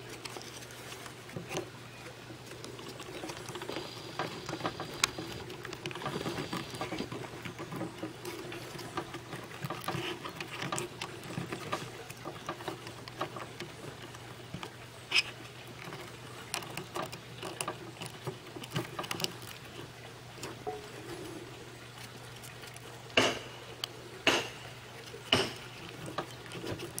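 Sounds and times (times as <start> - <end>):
handling taps and clicks: 0.0 - 21.0, 21.9 - 27.0.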